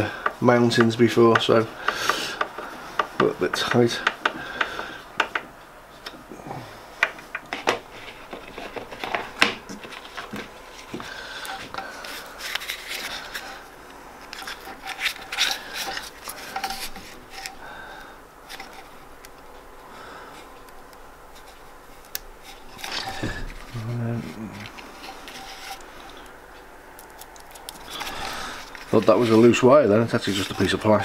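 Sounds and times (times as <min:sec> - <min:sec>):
hands handling metal parts: 0:00.0 - 0:06.3, 0:07.0 - 0:17.8, 0:20.4 - 0:31.0.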